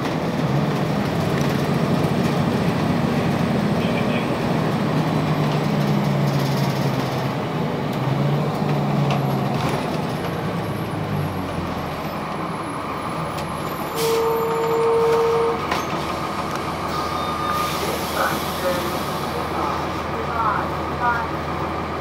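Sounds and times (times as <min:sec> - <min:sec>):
bus diesel engine: 0:00.0 - 0:22.0.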